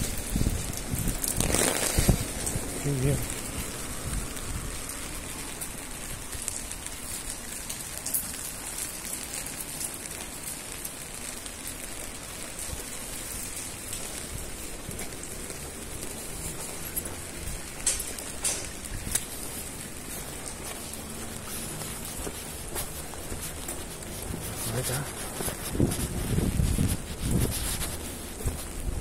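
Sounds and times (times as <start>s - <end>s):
rain on wet street: 0.0s - 29.0s
raindrop ticks: 0.0s - 29.0s.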